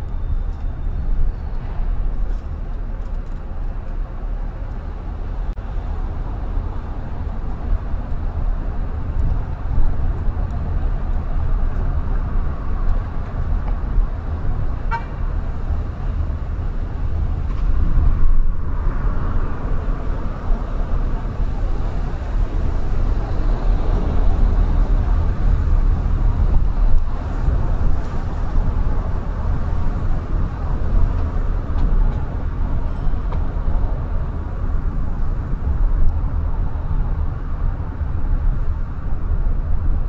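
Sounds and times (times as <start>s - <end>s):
car road and engine rumble: 0.0s - 40.0s.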